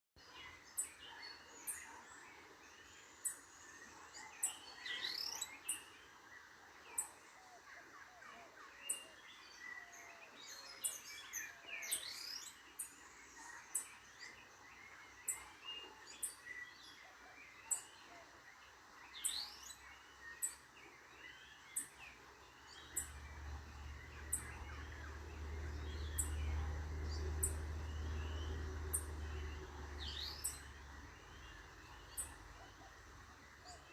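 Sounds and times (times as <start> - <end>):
wild birds calling and singing: 0.2 - 33.9.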